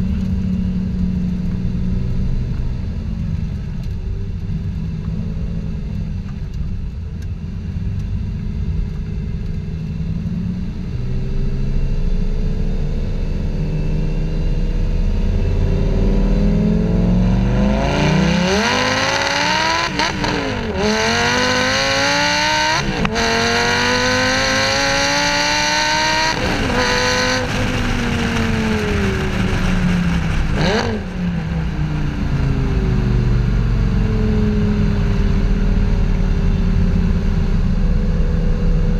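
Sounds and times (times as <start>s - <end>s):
sports car engine accelerating: 0.0s - 38.9s.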